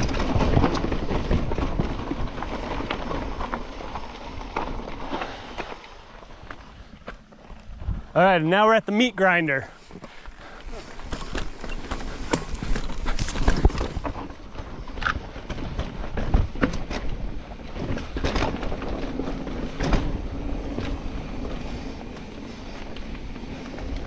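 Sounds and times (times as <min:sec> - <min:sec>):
bike clattering over bumps: 0:00.0 - 0:07.9, 0:10.0 - 0:24.0
bike tyres on dirt and rock: 0:00.0 - 0:24.0.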